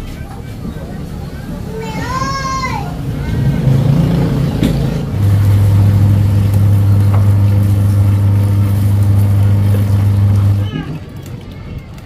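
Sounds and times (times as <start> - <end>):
motor engine humming: 0.0 - 10.8.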